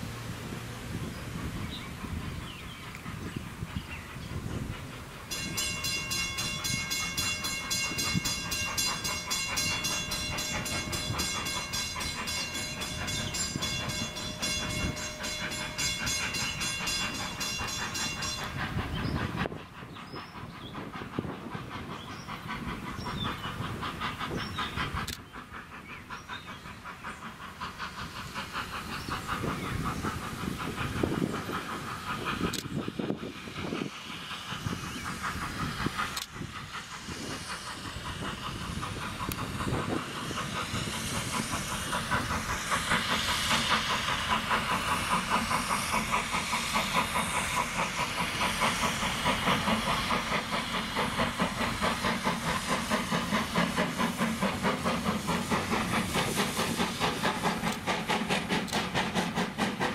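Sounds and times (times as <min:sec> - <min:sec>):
rail noise: 0:00.0 - 0:59.9
steam hiss: 0:00.0 - 0:59.9
steam locomotive chuffing: 0:00.0 - 0:59.9.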